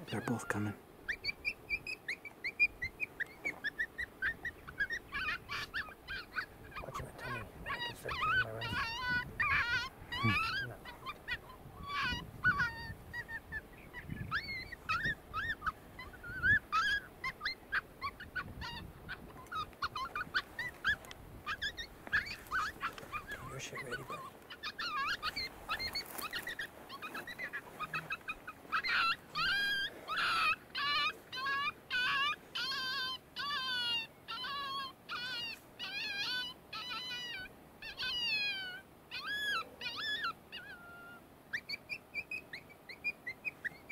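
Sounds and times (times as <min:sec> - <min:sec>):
coyote yips and howls: 0:00.0 - 0:43.9.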